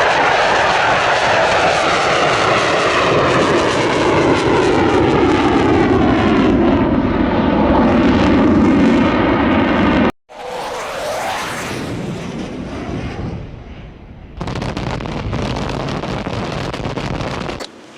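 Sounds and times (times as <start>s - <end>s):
fighter jet flying past: 0.0s - 17.9s.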